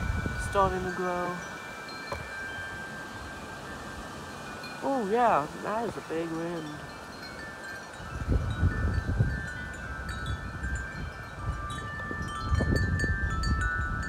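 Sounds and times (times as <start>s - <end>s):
wind buffeting microphone: 0.0s - 14.0s
wind chimes ringing: 0.0s - 14.0s.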